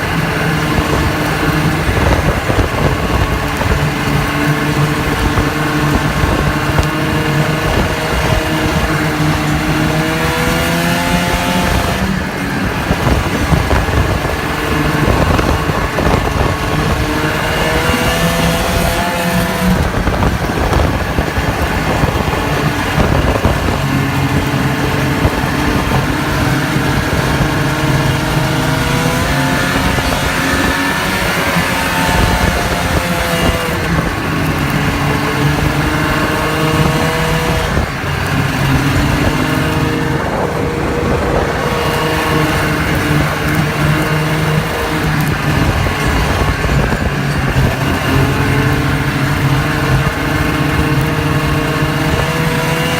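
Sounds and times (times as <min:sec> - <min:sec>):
snowmobile engine speeding up: 0:00.0 - 0:52.9.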